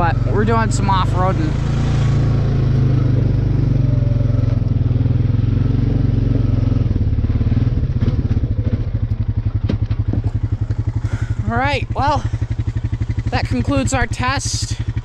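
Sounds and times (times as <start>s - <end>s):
atv engine putting: 0.0s - 15.0s.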